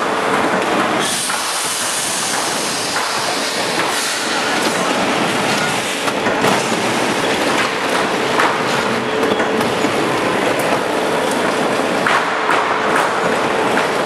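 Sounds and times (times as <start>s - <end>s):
machine mechanical clatter: 0.1s - 14.0s.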